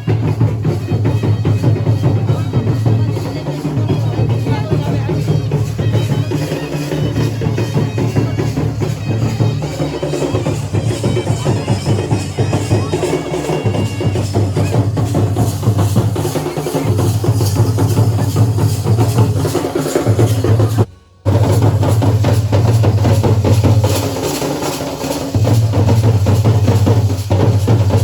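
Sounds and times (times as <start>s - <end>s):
drums playing fast rhythm: 0.0s - 28.0s.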